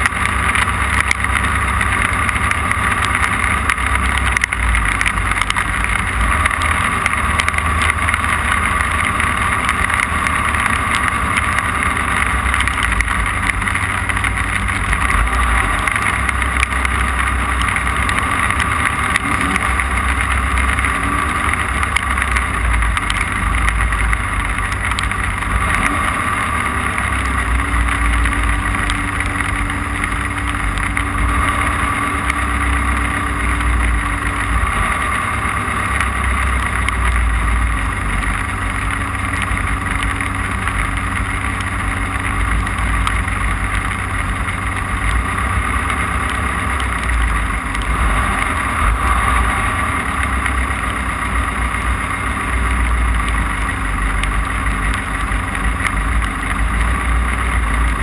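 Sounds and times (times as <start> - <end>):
low drivetrain rumble: 0.0 - 58.0
race car engine running: 0.0 - 58.0.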